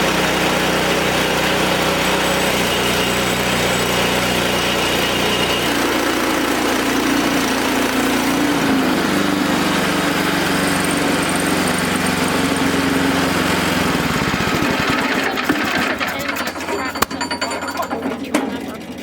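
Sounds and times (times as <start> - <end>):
saw cutting a log: 0.0 - 17.0
sawmill engine running: 0.0 - 19.0.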